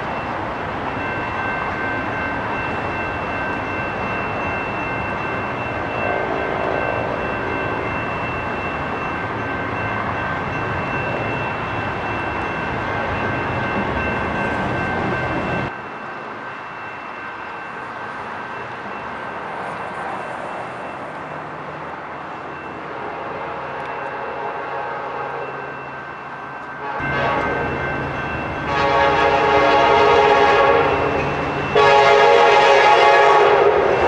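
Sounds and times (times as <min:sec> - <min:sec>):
railroad crossing bell ringing: 0:00.0 - 0:34.0
train rumble: 0:00.0 - 0:34.0.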